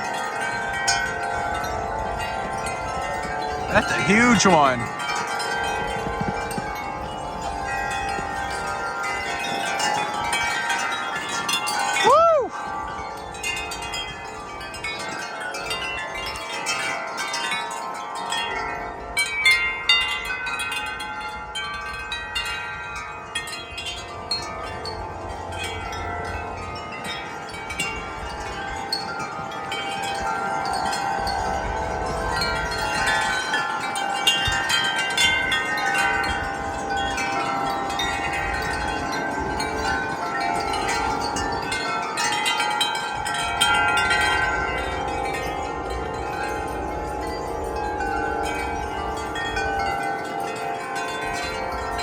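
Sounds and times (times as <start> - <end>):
wind rumble on microphone: 0.0 - 3.7, 4.8 - 52.0
wind chime ringing: 0.0 - 52.0.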